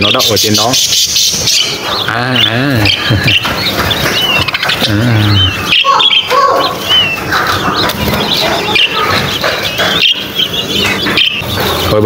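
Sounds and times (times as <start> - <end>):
budgerigars chattering and warbling: 0.0 - 12.0.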